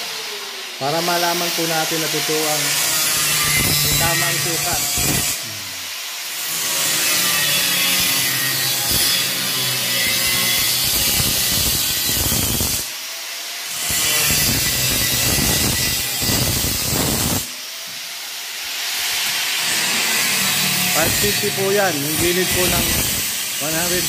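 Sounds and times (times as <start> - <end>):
angle grinder cutting metal: 0.0 - 24.0.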